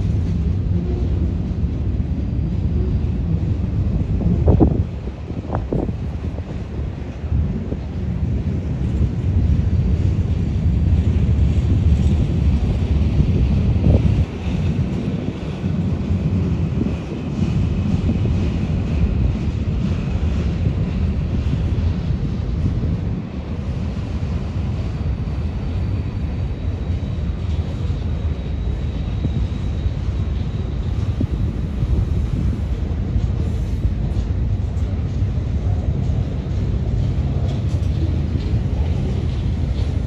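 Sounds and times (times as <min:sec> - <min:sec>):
train wheels rumbling on rail: 0:00.0 - 0:40.0
wind buffeting microphone: 0:00.0 - 0:40.0.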